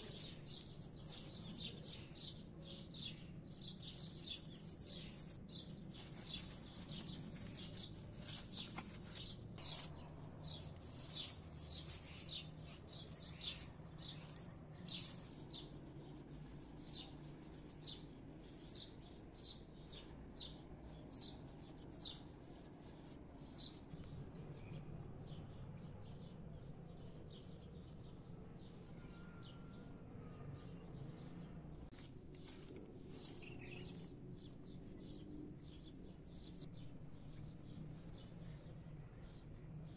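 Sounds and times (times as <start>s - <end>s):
small bird chirping: 0.0s - 28.0s, 32.0s - 39.9s.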